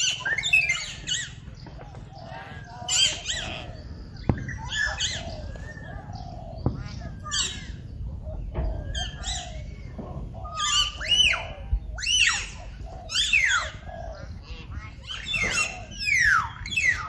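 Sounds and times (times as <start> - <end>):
birds squawking and chirping: 0.0 - 17.0.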